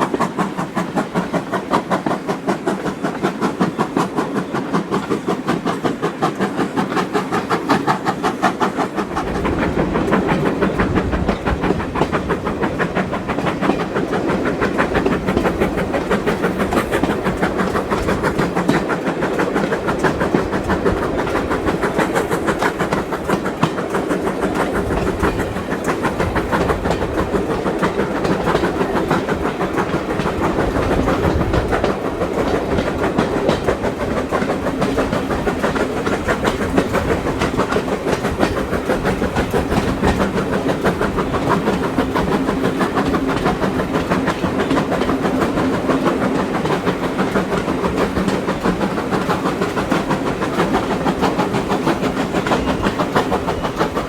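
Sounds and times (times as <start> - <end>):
rail clatter: 0.0 - 54.0
steam train running: 0.0 - 54.0.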